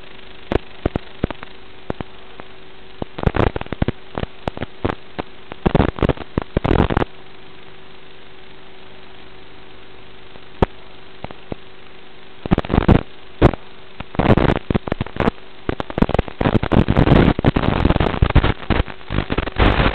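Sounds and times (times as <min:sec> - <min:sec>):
crackling radio static: 0:00.0 - 0:19.9
faint hum: 0:00.0 - 0:19.9
steady hiss: 0:00.0 - 0:19.9.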